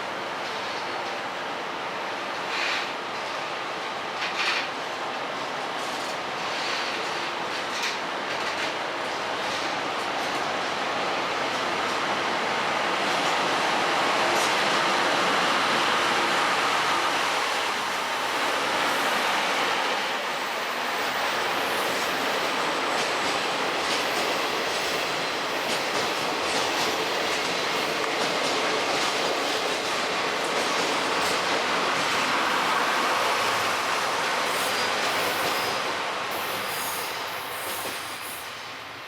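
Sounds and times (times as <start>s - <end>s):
train rolling on rails: 0.0s - 39.0s.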